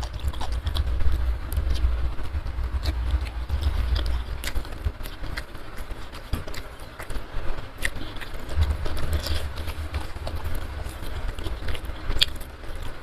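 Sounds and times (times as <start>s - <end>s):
chewing mouth clicks and smacks: 0.0s - 13.0s
low rumble: 0.0s - 13.0s.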